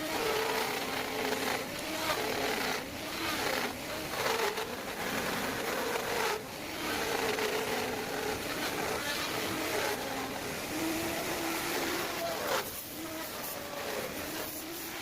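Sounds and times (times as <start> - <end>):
power tool cutting wood: 0.0 - 15.0.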